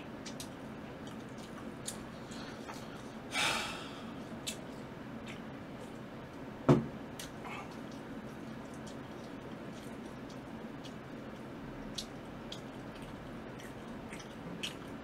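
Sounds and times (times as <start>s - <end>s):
chewing and mouth clicks: 0.2s - 3.1s, 4.3s - 6.4s, 7.2s - 15.0s.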